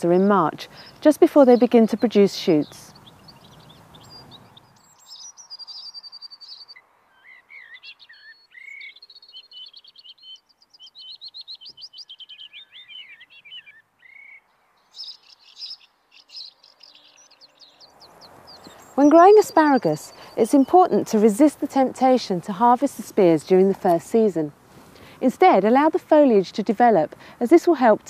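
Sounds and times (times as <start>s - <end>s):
songbirds singing: 0.0s - 28.0s.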